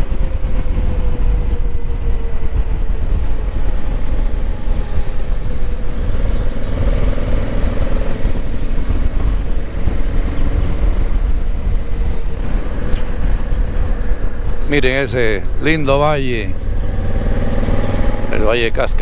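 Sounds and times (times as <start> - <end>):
motorcycle engine running: 0.0 - 18.3
wind noise on microphone: 0.0 - 19.0.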